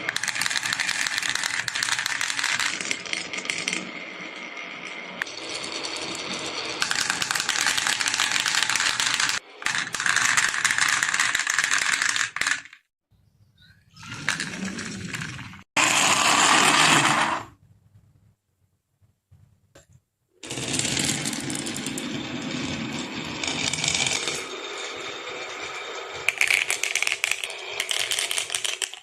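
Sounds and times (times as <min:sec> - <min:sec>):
marbles clattering down marble run: 0:00.1 - 0:12.8, 0:14.0 - 0:17.4, 0:20.4 - 0:29.0.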